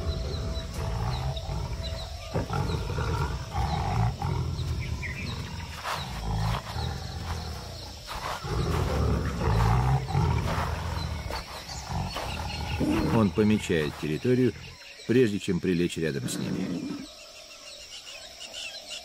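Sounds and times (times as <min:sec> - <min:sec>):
tigers growling low: 0:00.0 - 0:15.0, 0:16.1 - 0:17.2.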